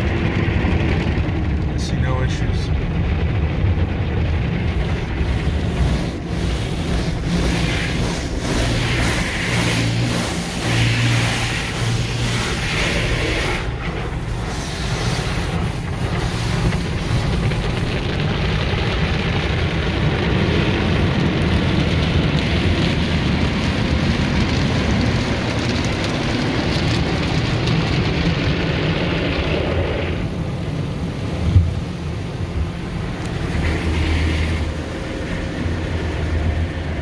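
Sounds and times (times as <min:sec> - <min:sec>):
car wash water spray: 0:00.0 - 0:37.0
spinning car wash brushes: 0:00.0 - 0:37.0.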